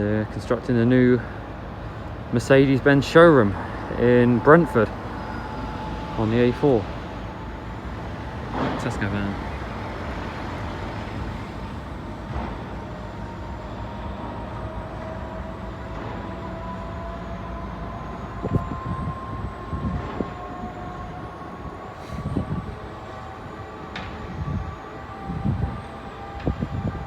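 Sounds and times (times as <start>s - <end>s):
dense mechanical rumble: 0.0s - 27.0s
engine and hydraulics whine: 0.0s - 27.0s
low rumbling surges: 0.0s - 27.0s.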